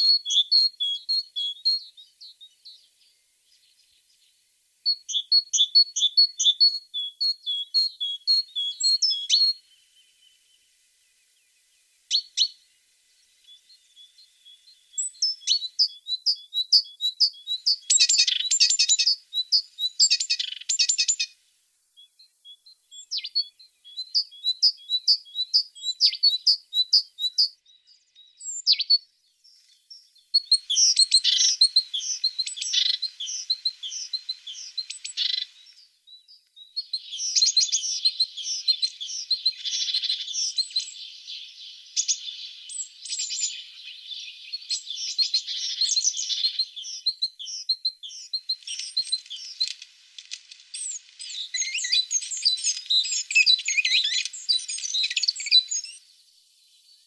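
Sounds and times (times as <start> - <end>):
birds chirping and trilling: 0.0 - 21.4, 22.0 - 57.0.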